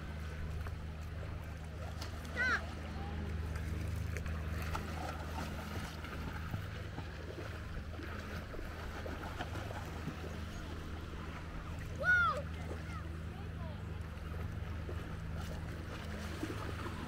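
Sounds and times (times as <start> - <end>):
low hum: 0.0 - 17.0
water splashing: 0.0 - 17.0.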